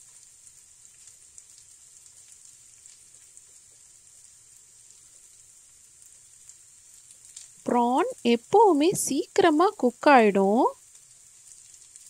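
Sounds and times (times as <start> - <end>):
prawns sizzling in oil: 0.0 - 12.0.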